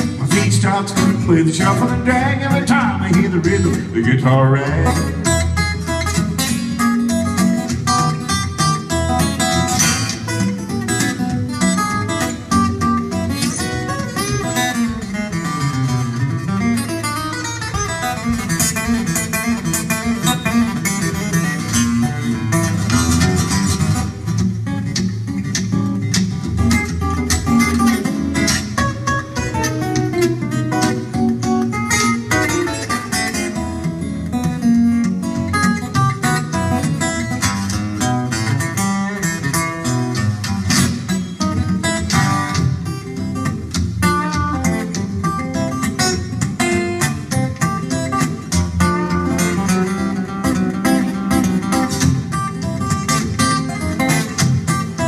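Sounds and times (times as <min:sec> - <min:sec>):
fingerpicked acoustic guitar: 0:00.0 - 0:55.0.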